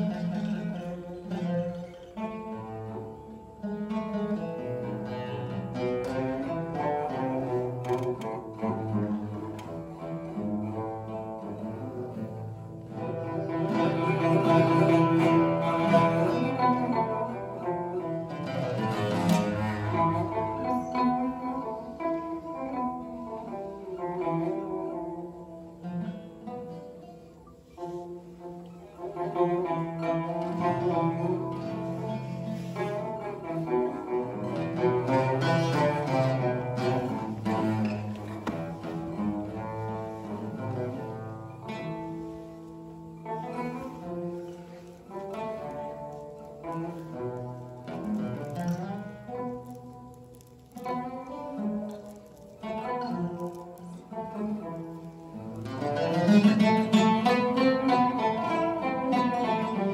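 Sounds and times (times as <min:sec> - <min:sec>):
plucked oud and tanbur melody: 0:00.0 - 0:59.9.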